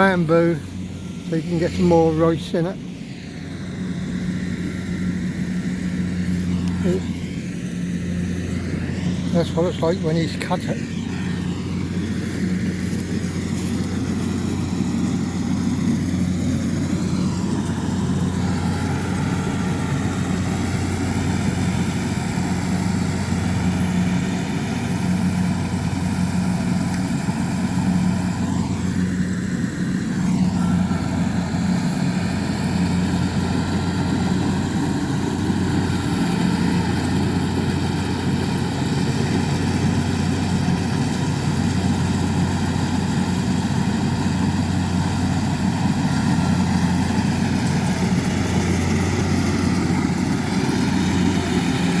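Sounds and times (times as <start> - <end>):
farm machinery engine running: 0.0 - 52.0.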